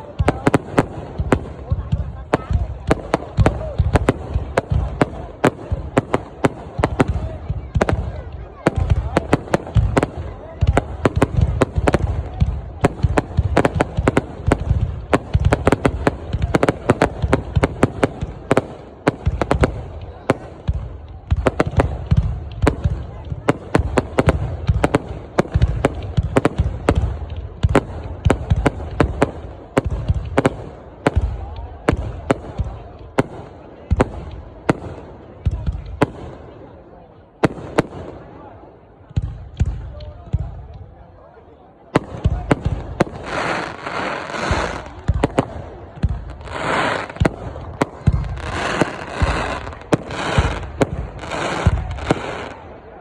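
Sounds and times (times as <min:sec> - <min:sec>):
fireworks bangs: 0:00.0 - 0:53.0
fireworks crackling: 0:00.0 - 0:53.0.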